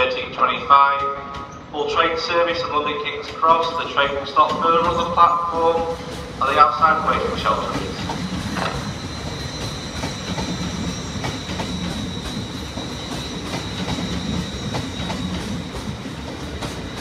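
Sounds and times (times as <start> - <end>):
train rumble: 0.0 - 17.0
train wheels clicking over rail joints: 0.4 - 17.0.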